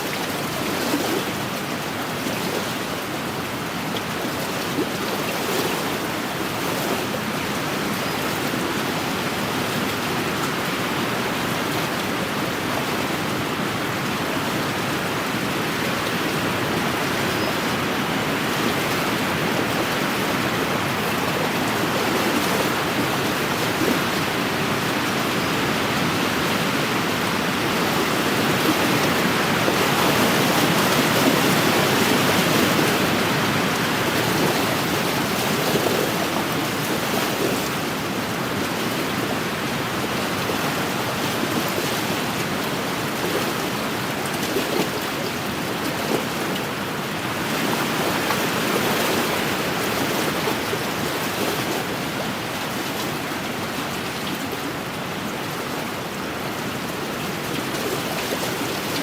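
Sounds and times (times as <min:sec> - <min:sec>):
waves washing against shore: 0:00.0 - 0:59.0.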